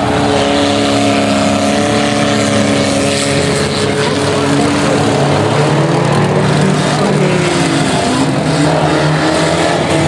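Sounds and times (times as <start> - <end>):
race car engine at high revs: 0.0 - 10.0.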